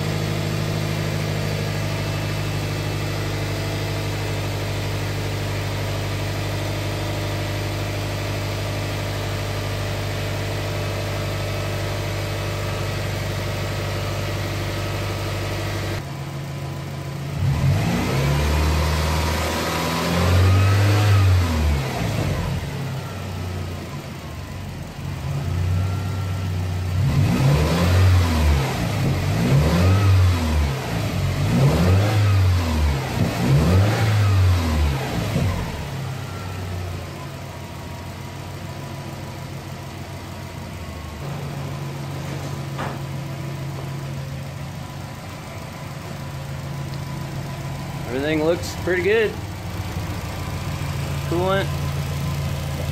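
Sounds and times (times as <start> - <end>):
car engine idling and revving: 0.0 - 52.9.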